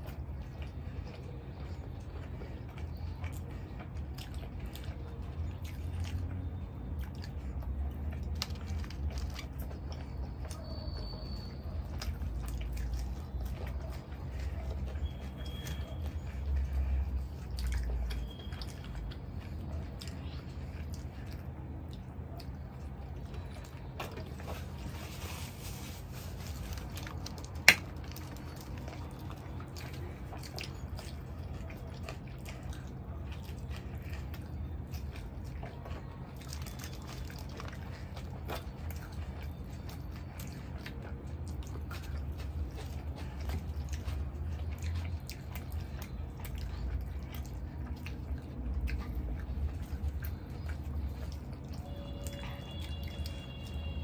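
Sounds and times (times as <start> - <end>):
chewing and mouth clicks: 0.0 - 54.0
fingers squishing in gravy: 0.0 - 54.0
low steady hum: 0.0 - 54.0.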